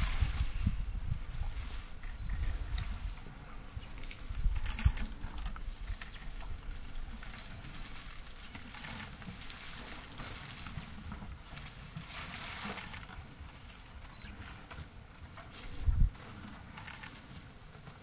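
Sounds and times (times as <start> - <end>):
leaves and twigs rustling: 0.0 - 18.0.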